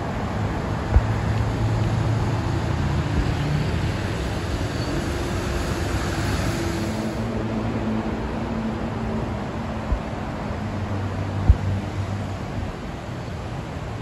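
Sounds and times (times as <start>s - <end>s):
city road traffic: 0.0s - 14.0s.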